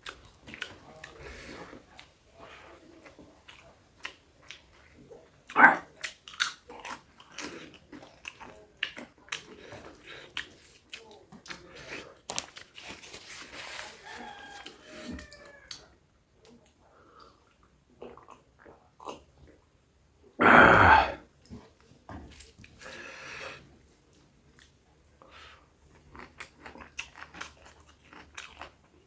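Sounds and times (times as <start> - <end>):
wet chewing and crunching: 0.0 - 19.6, 23.9 - 29.0.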